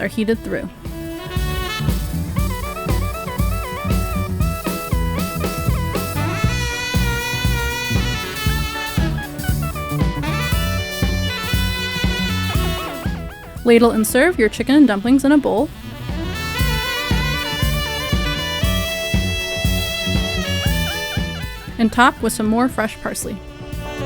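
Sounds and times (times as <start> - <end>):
drum kit beat: 0.0 - 24.0
saxophone melody: 0.0 - 24.0.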